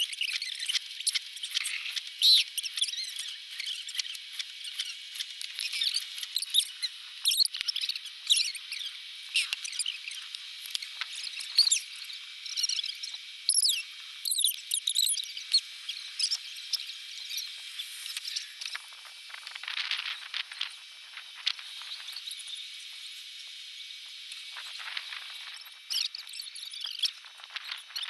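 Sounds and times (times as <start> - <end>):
sped-up high squeaks and chirps: 0.0 - 23.2, 24.5 - 28.0.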